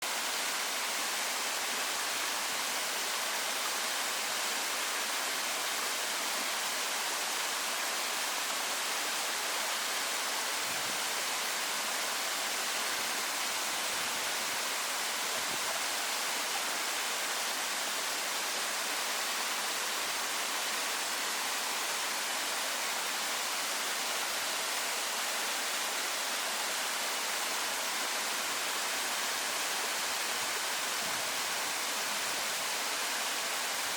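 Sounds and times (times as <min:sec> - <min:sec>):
waterfall splashing: 0:00.0 - 0:33.9.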